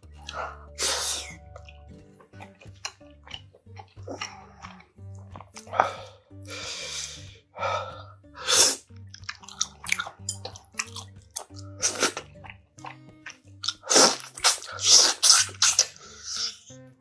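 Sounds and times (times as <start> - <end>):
wet chewing and sucking: 0.0 - 16.9
quiet background music: 0.0 - 17.0.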